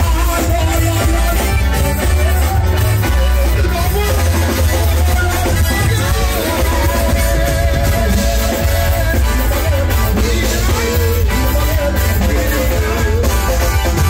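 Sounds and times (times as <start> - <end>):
loud music with heavy bass: 0.0 - 14.0
man singing into a microphone: 0.0 - 14.0.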